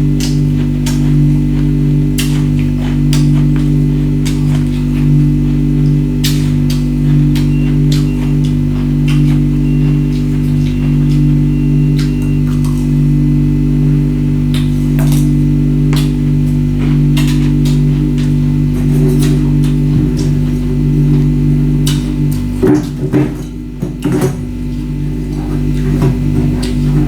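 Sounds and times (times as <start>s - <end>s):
background music with low tones: 0.0s - 27.0s
ice being chewed: 0.0s - 27.0s.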